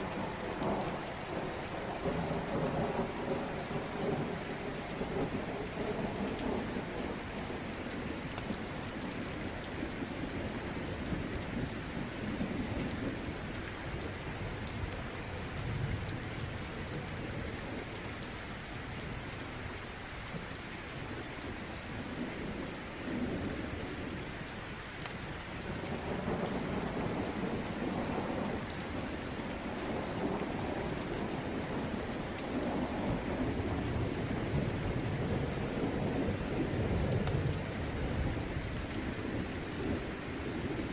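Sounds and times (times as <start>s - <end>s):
low rolling thunder: 0.0s - 18.2s, 25.6s - 40.9s
steady rain: 0.0s - 40.9s.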